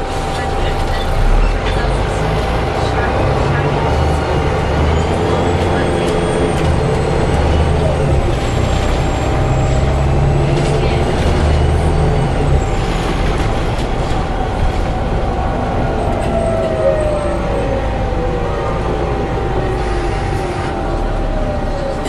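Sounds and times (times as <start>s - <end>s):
bus engine droning: 0.0s - 22.0s
steady howling tone: 0.0s - 22.0s.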